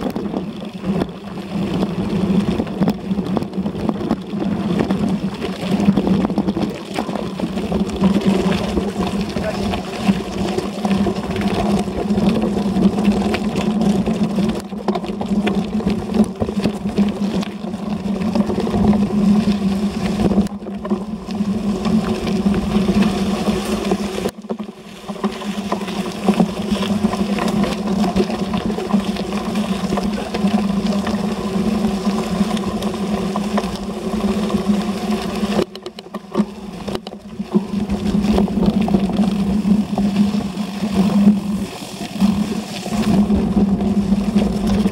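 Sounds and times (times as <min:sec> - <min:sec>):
bike tyres rattling on gravel: 0:00.0 - 0:44.9.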